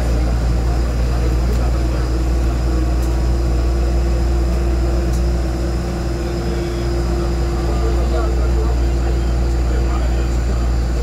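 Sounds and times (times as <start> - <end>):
mid-pitched hum: 0.0 - 11.0
vehicle engine rumble: 0.0 - 11.0.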